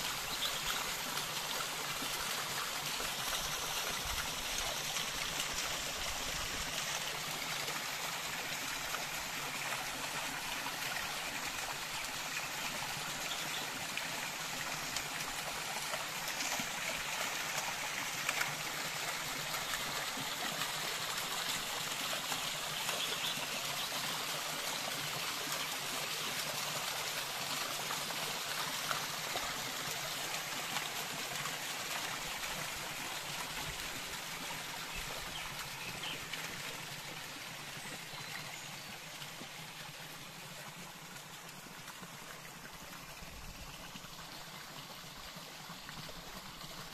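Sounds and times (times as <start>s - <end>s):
waterfall trickling into a pool: 0.0s - 46.9s.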